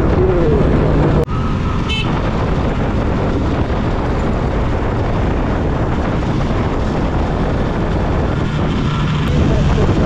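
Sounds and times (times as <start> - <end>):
motorcycle wind and road noise: 0.0 - 10.0.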